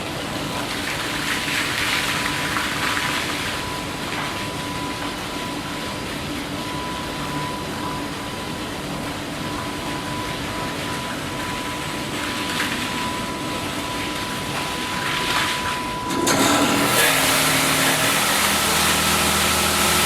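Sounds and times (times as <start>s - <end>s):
car wash machine rushing: 0.0s - 20.0s.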